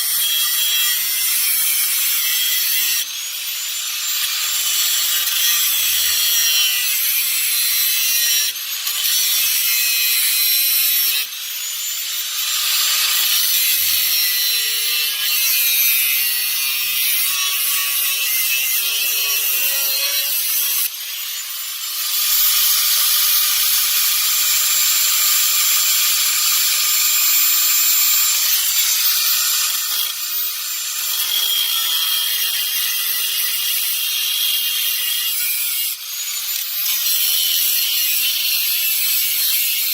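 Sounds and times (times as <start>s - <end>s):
power saw cutting sheet metal: 0.0s - 39.9s.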